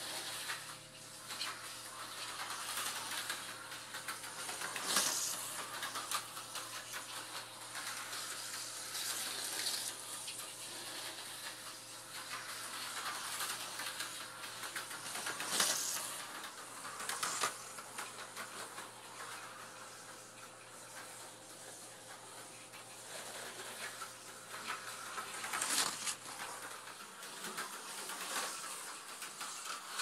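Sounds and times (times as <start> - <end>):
slot car whirring on track: 0.0 - 20.2, 20.9 - 30.0.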